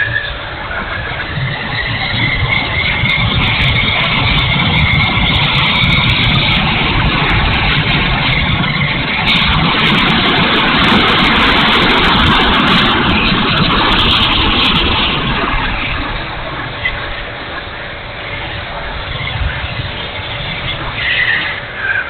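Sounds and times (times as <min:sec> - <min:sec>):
electric ducted fan whoosh: 0:00.0 - 0:22.0.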